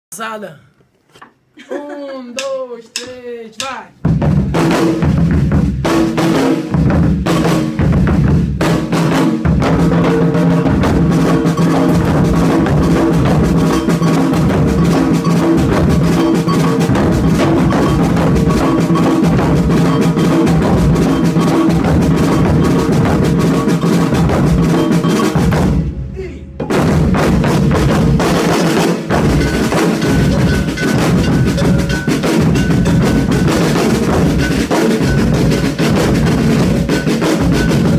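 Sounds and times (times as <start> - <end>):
percussion ensemble drumming: 2.3 - 37.9.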